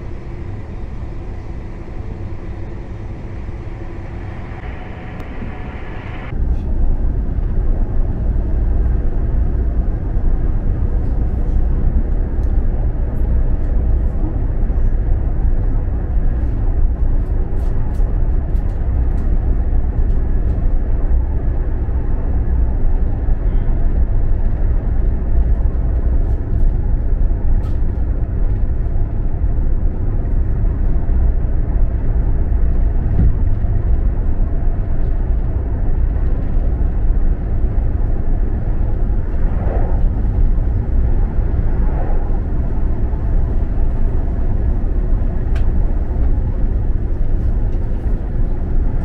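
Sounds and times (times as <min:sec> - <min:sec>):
train running at speed: 0:00.0 - 0:49.0.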